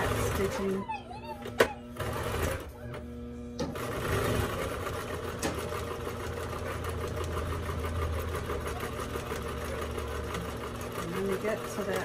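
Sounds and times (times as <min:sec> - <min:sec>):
electric sewing machine running: 0:00.0 - 0:12.0.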